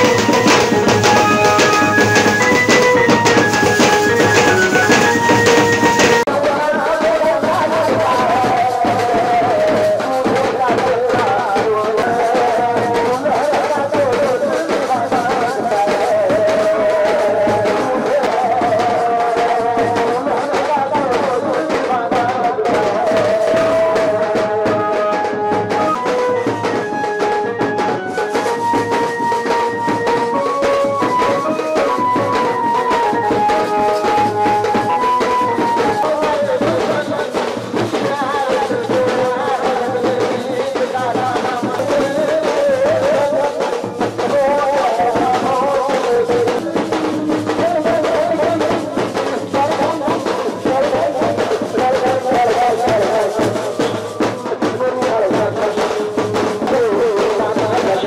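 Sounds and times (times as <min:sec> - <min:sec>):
music with drums and melody: 0:00.0 - 0:58.0.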